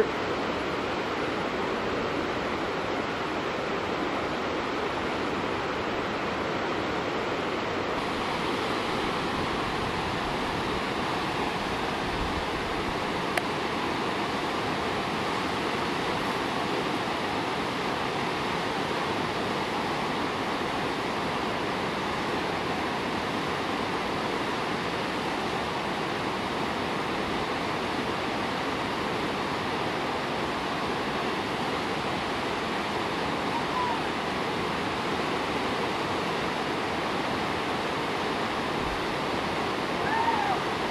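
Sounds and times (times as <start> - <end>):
river rapids rushing: 0.0 - 40.9.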